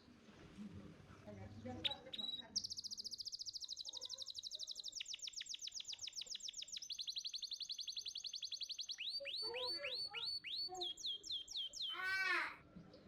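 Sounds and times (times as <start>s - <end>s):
canary trilling: 1.8s - 12.5s.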